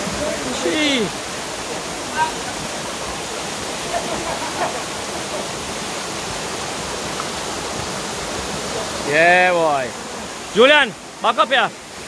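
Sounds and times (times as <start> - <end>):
waterfall over rocks: 0.0 - 12.0.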